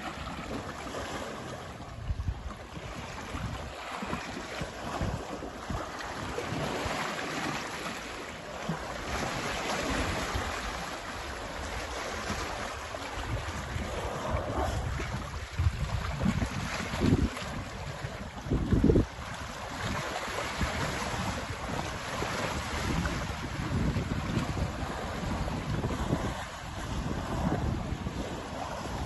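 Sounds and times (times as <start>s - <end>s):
water splashing and sloshing: 0.0s - 29.0s
wind buffeting microphone: 0.0s - 29.0s.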